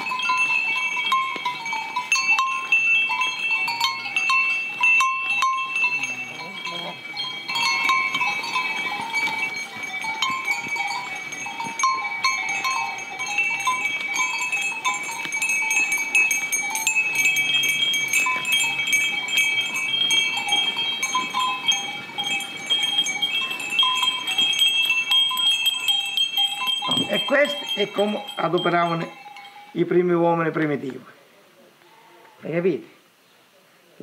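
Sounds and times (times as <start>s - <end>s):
animal bells clinking and ringing: 0.0s - 30.9s.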